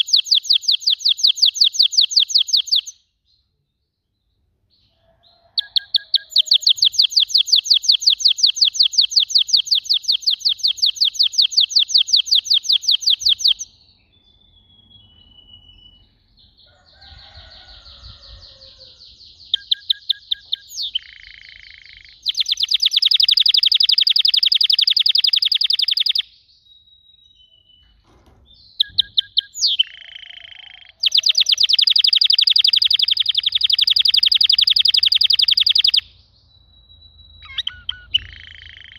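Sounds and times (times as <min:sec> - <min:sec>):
canary singing trills: 0:00.0 - 0:03.5, 0:04.2 - 0:38.9.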